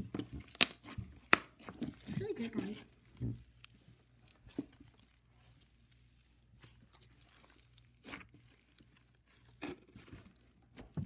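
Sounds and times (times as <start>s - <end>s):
slime crackling and squishing: 0.0s - 11.0s.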